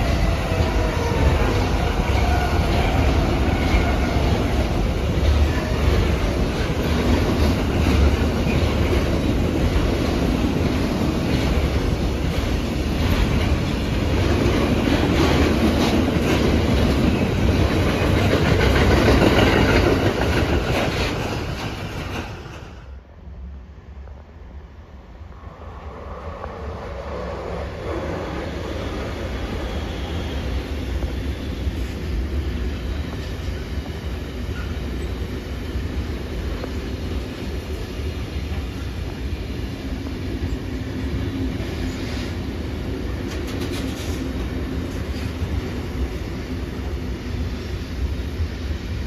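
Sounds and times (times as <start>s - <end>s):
clickety-clack over rail joints: 0.0s - 23.0s, 30.4s - 47.4s
freight train wheels rumbling: 0.0s - 49.0s.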